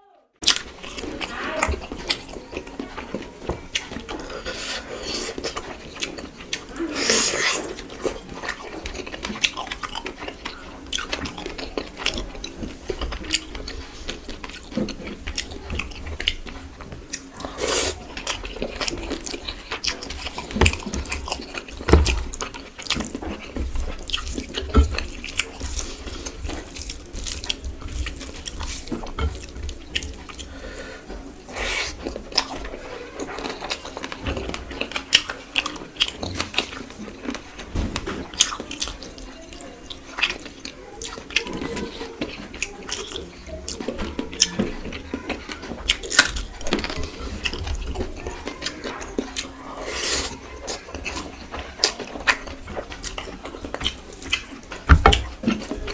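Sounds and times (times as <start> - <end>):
wet chewing and lip smacks: 0.4 - 37.5, 38.2 - 55.9.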